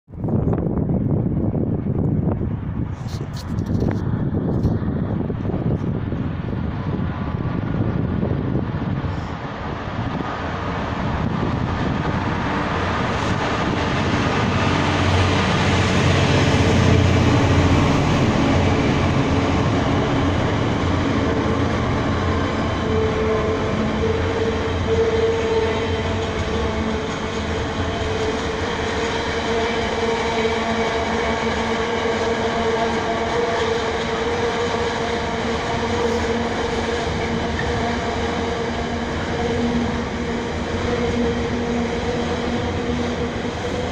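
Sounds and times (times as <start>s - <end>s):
diesel locomotive passing: 0.1s - 43.9s
train wheels rumbling: 0.1s - 43.9s.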